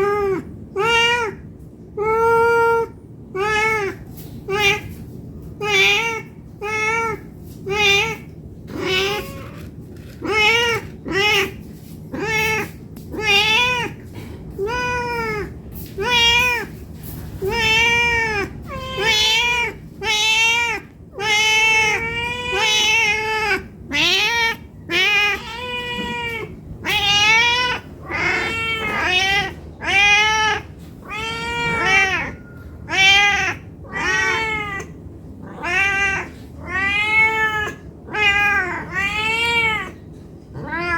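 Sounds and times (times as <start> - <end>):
cat meowing: 0.0 - 5.0, 5.6 - 40.0, 40.6 - 40.9.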